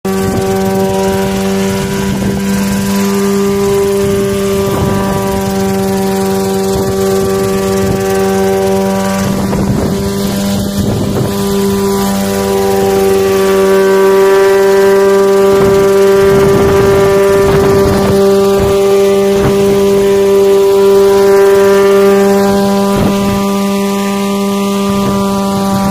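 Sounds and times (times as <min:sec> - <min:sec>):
helicopter hovering: 0:00.0 - 0:25.9
wind noise on microphone: 0:00.0 - 0:25.9.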